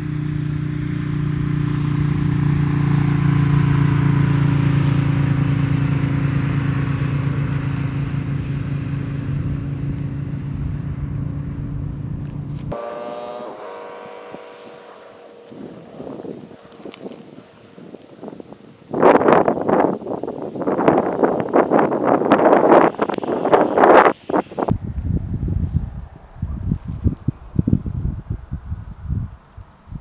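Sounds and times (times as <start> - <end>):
motorcycle engine passing: 0.0 - 19.9, 20.6 - 30.0.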